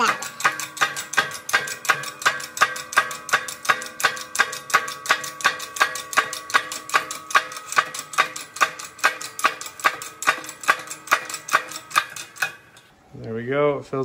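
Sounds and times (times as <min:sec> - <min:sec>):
hydraulic press metallic ticking: 0:00.0 - 0:12.9.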